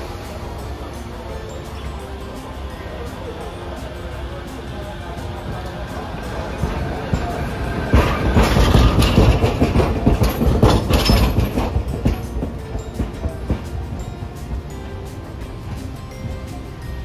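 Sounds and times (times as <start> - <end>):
streetcar wheels clattering over rails: 0.0 - 17.0.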